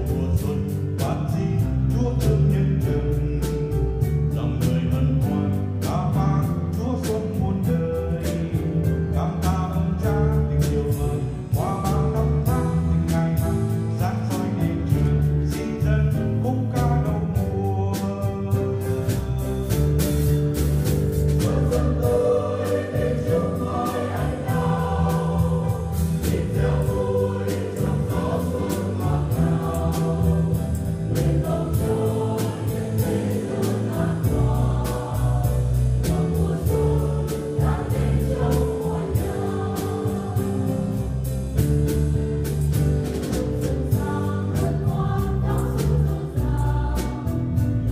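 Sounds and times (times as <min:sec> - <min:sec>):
band with drum kit: 0:00.0 - 0:47.9
choir singing a hymn: 0:04.3 - 0:47.9.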